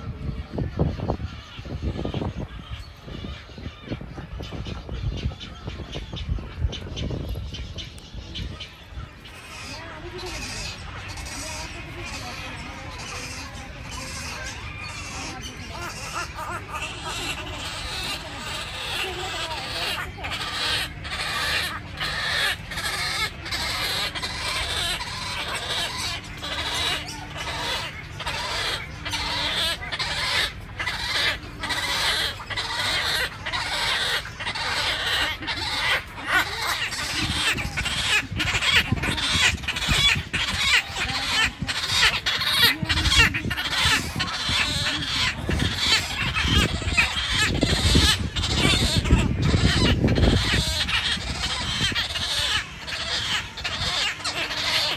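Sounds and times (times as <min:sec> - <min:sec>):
wetland birds calling: 0:00.0 - 0:54.9.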